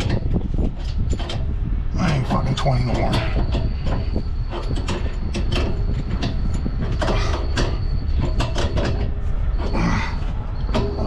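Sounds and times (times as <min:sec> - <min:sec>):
low mechanical rumble: 0:00.0 - 0:11.0
metallic clicks and clanks: 0:00.0 - 0:11.0.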